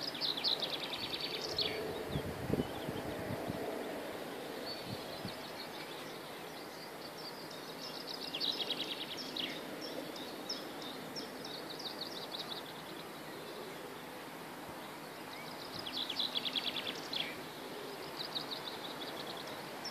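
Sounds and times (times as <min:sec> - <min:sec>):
songbirds singing: 0:00.0 - 0:19.9
steady background hiss: 0:00.0 - 0:19.9.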